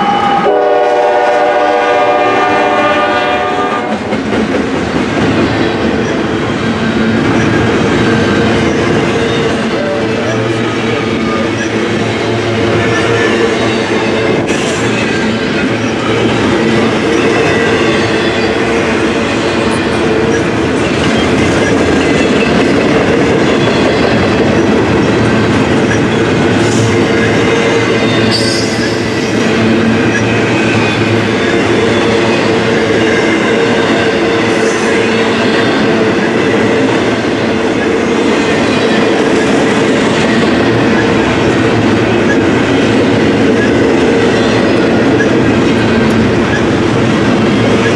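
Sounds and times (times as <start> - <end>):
train wheels running on rails: 0.0 - 47.9
clickety-clack over rail joints: 3.6 - 47.9.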